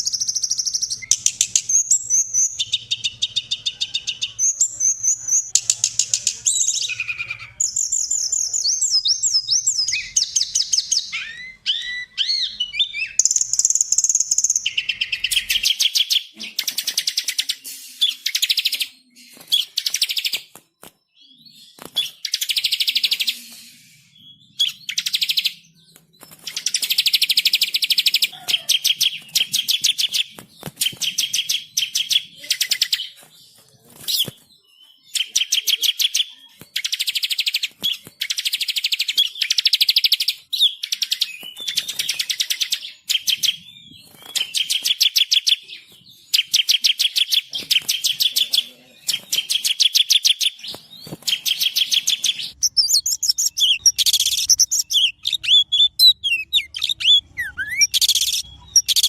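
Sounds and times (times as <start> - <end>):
songbird trills and chattering: 0.0 - 20.5, 21.2 - 59.0.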